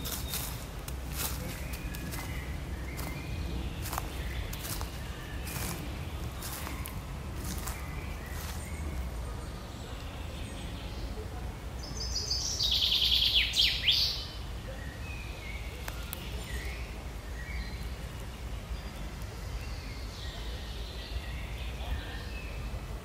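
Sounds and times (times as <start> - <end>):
songbird singing rapid notes: 0.0 - 22.9.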